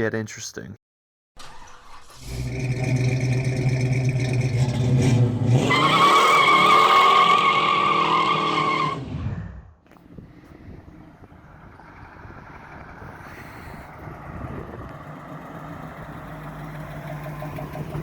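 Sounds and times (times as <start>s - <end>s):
car engine revving: 1.4s - 9.2s, 10.8s - 18.0s.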